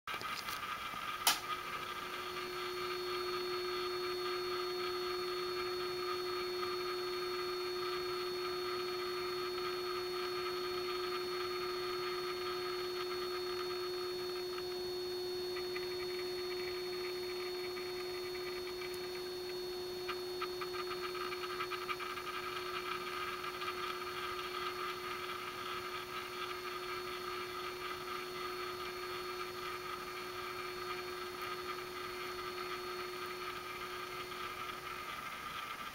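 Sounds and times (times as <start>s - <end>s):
electric motor humming: 0.2s - 35.9s.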